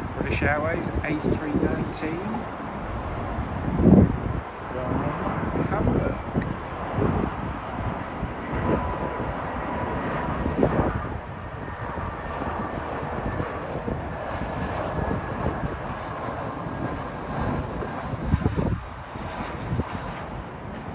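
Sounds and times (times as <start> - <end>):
faint engine whine: 0.0 - 20.9
jet airliner passing: 0.0 - 20.9.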